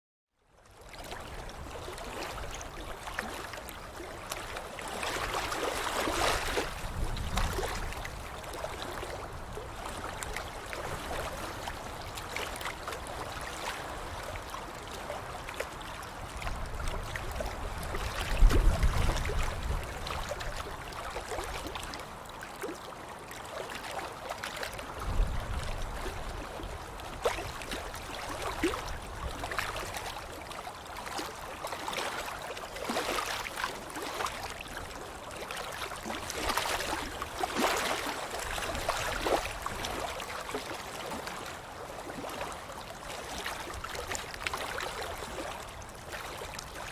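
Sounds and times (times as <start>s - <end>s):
water splashing and sloshing: 0.7s - 46.9s.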